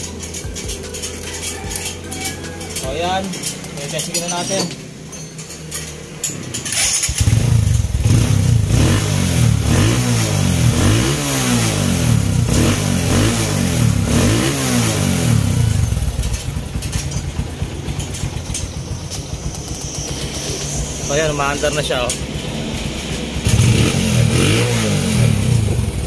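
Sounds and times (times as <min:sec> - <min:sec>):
motorcycle engine revving and idling: 0:00.0 - 0:26.0.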